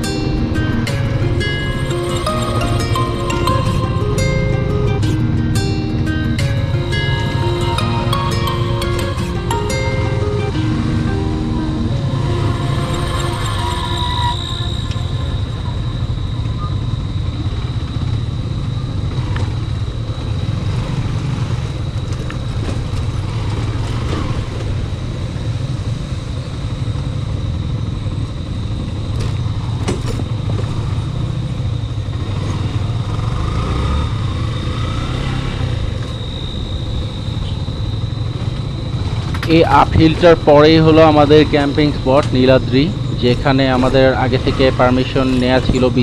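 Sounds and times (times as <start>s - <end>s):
motorcycle engine running: 0.0s - 46.0s
road and wind noise: 0.0s - 46.0s.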